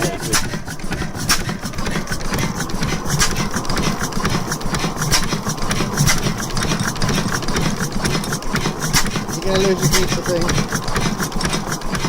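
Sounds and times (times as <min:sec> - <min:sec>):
stationary gas engine running slowly: 0:00.0 - 0:12.0.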